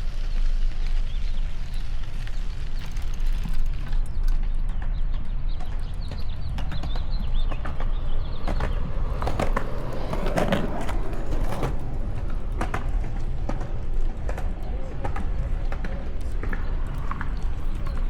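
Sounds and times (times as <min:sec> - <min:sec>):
bicycle clicks and rattles: 0:00.0 - 0:18.0
wind rumbling on microphone: 0:00.0 - 0:18.0.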